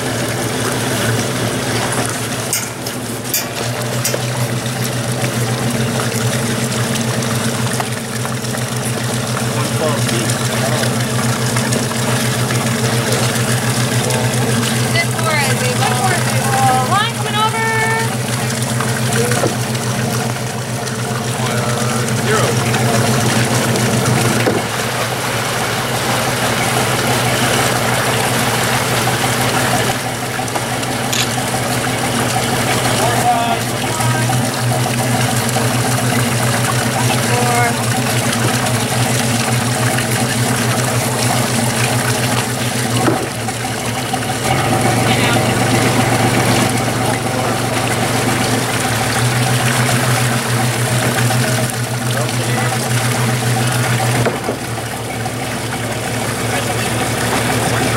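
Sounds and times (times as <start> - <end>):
boat engine idling: 0.0 - 57.9
water noise: 0.0 - 57.9.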